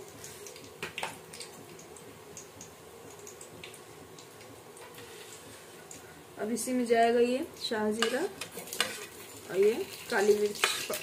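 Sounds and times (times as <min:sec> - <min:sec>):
hot oil sizzling and popping: 0:00.0 - 0:11.0.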